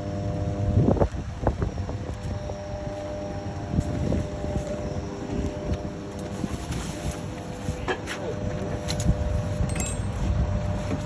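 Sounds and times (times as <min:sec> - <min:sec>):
steady mechanical hum: 0:00.0 - 0:11.0
wind rumble on microphone: 0:00.0 - 0:11.0.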